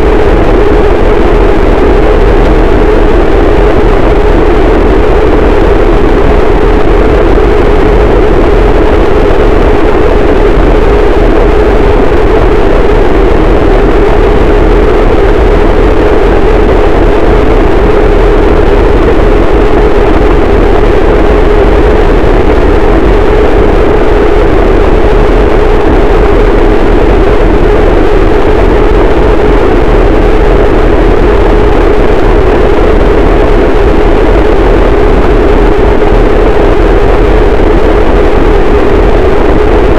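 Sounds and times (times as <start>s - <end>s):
loud distorted static noise: 0.0s - 39.9s.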